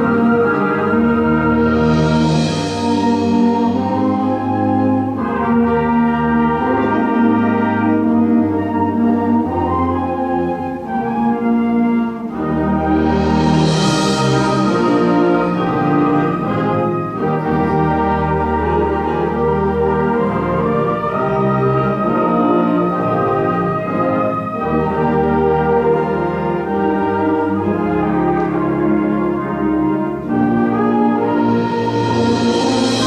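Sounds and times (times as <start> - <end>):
brass sustained chords: 0.0 - 33.0
concert band playing: 0.0 - 33.0.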